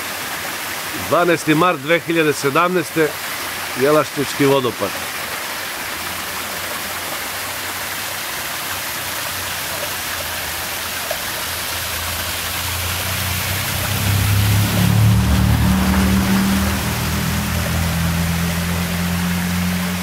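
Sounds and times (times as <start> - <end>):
waterfall splashing into pool: 0.0 - 20.0.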